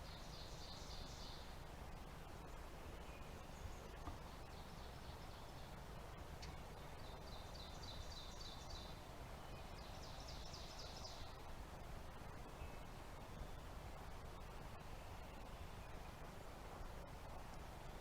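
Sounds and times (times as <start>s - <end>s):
outdoor background hush: 0.0s - 18.0s.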